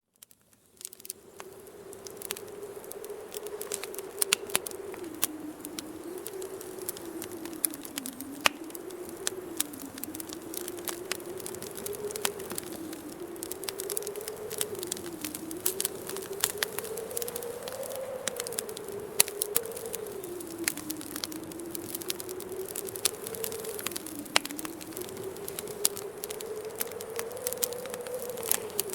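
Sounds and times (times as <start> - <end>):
wood fire crackling: 0.2 - 28.9
wind whistling: 1.1 - 28.9.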